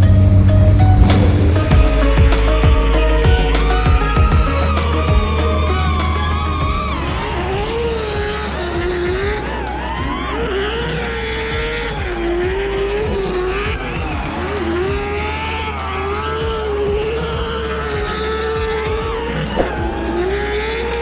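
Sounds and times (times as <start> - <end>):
car engine revving: 0.0 - 21.0
tyres squealing: 2.0 - 21.0.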